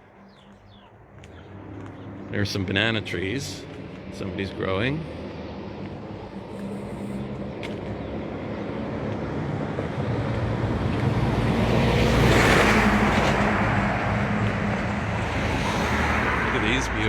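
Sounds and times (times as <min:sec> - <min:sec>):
car driving past: 0:01.2 - 0:17.0.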